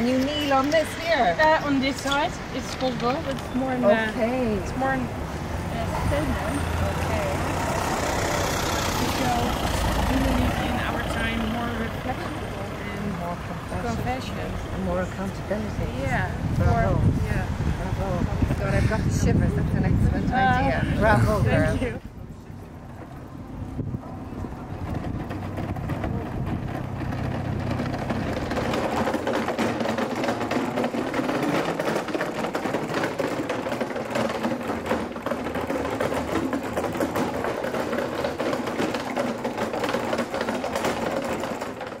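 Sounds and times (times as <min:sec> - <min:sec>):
cart casters rattling on brick: 0:00.0 - 0:42.0.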